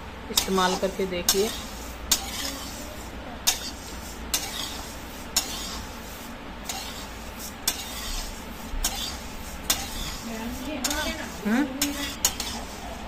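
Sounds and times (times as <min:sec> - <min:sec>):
seeds rustling and scraping in pan: 0:00.3 - 0:13.0.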